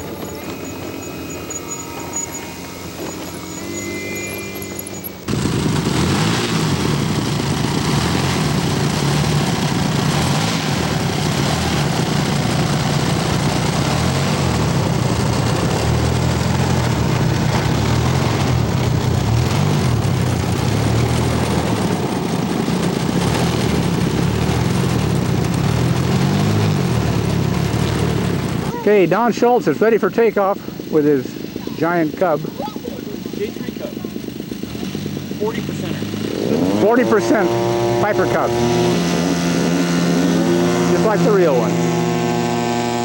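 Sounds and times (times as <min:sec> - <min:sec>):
model airplane engine running: 0:00.0 - 0:43.0.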